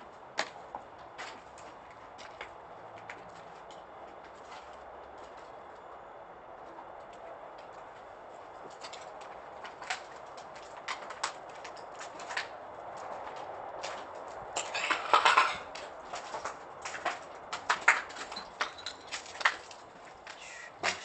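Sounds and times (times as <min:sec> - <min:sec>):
footsteps crunching on debris: 0:00.1 - 0:06.0, 0:07.6 - 0:21.0.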